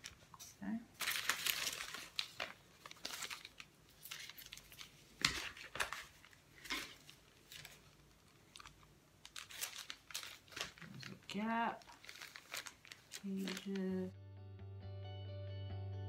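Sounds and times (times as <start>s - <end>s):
paper strips rustling: 0.0s - 14.1s.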